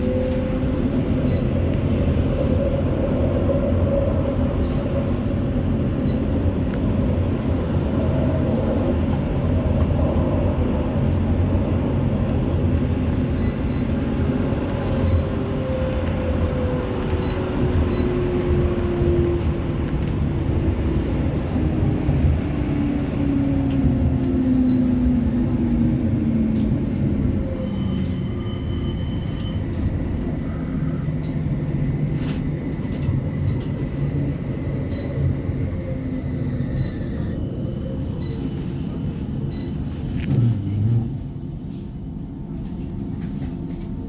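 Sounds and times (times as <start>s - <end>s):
wheels rumbling on rail: 0.0s - 44.0s.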